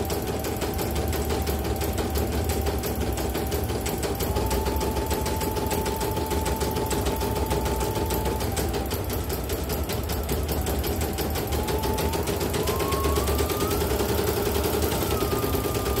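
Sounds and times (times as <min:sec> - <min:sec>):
motor whine: 0:00.0 - 0:16.0.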